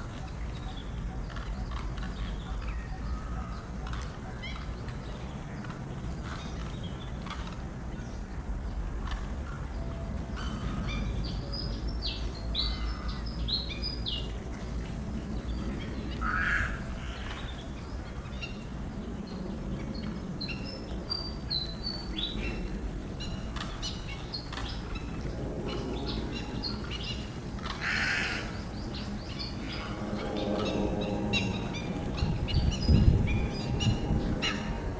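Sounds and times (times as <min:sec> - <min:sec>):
birds chirping: 0:00.0 - 0:34.9
steady low rumble: 0:00.0 - 0:34.9.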